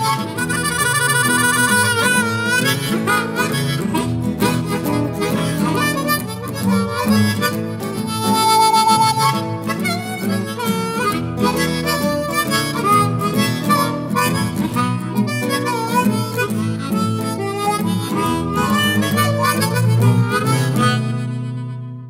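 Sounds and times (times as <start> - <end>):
blues harmonica: 0.0 - 22.0
guitar accompaniment: 0.0 - 22.0.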